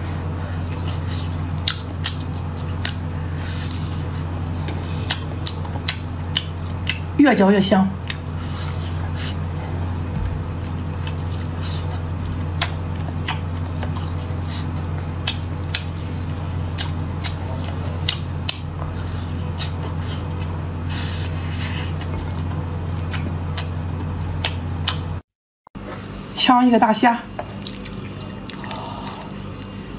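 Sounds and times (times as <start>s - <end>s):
low hum: 0.0s - 25.2s
dry meat crackling and chewing: 0.1s - 7.2s, 8.0s - 25.2s, 27.4s - 29.8s.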